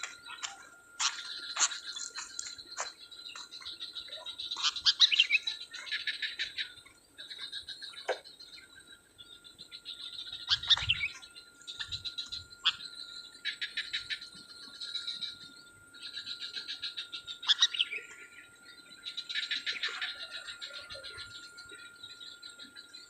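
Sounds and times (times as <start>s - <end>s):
high insect drone: 0.0s - 23.0s
rapid pulsing chirring: 0.0s - 23.0s.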